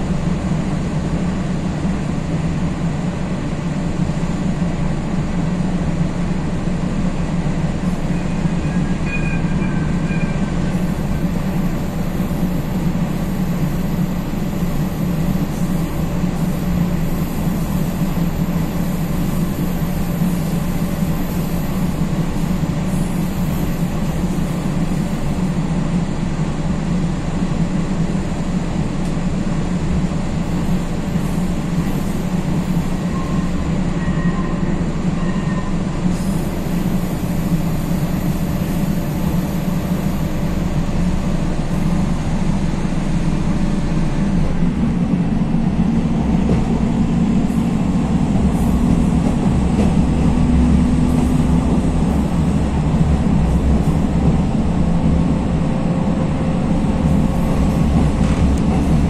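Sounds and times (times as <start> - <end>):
railcar engine rumble: 0.0 - 59.0.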